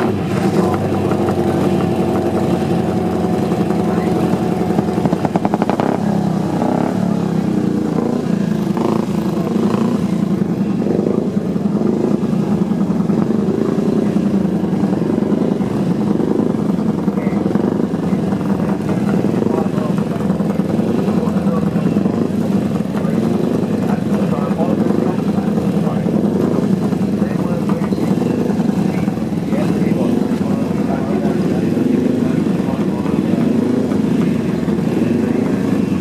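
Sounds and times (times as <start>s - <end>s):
motorcycle engines idling: 0.0s - 36.0s.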